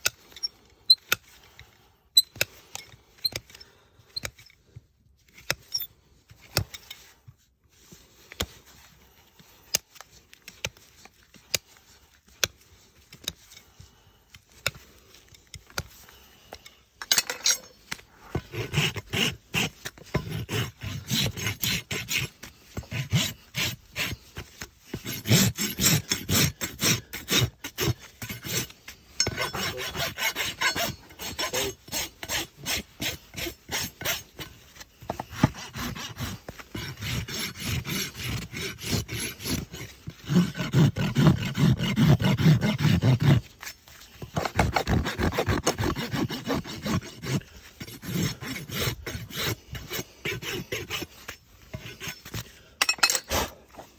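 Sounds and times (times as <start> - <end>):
rasp filing a hoof: 0.0 - 53.9.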